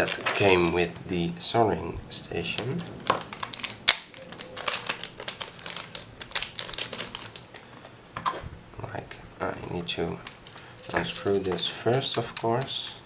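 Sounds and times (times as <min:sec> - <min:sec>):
light crinkling: 0:00.0 - 0:13.0.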